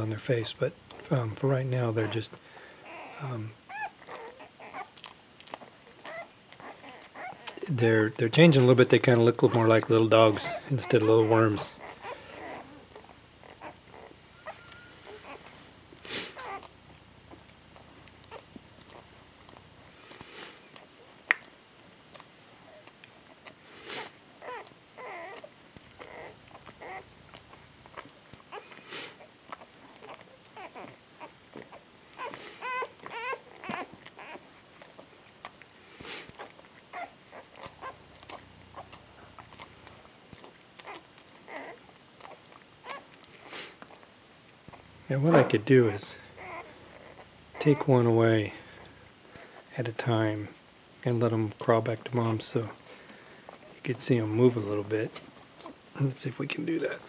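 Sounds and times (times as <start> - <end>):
puppies squeaking and whimpering: 0.0 - 57.0.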